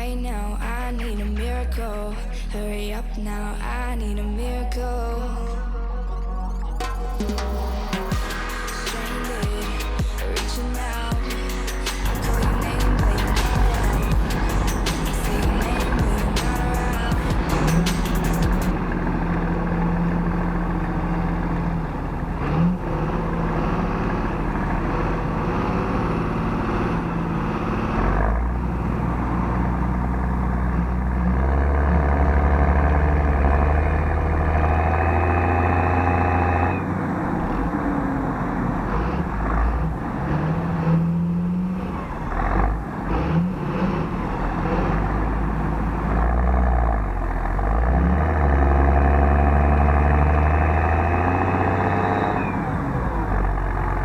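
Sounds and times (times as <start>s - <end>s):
tractor diesel engine revving: 6.1s - 54.0s.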